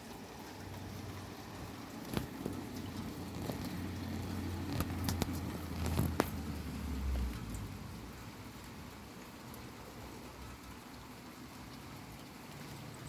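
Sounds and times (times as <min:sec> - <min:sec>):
heavy rain falling: 0:00.0 - 0:13.0
sharp drips splatting: 0:00.0 - 0:13.0.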